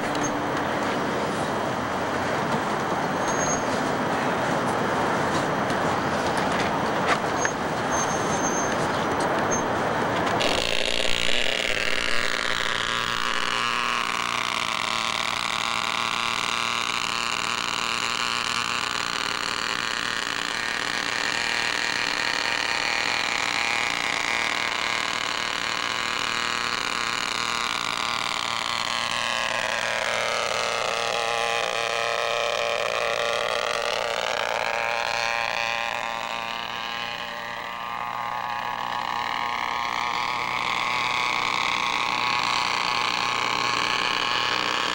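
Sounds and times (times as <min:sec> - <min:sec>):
model helicopter whine: 0:00.0 - 0:44.9.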